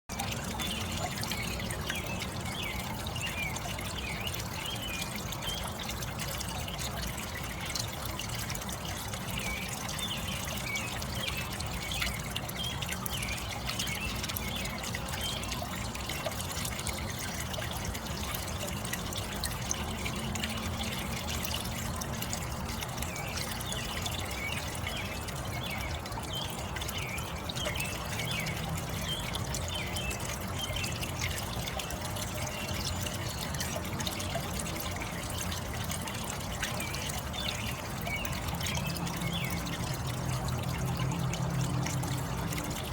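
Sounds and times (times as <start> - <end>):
pond waterfall splashing: 0.1 - 42.9.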